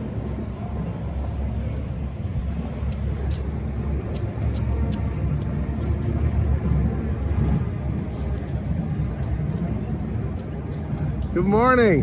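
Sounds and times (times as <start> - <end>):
outdoor street noise: 0.0 - 12.0
wind buffeting microphone: 0.0 - 12.0.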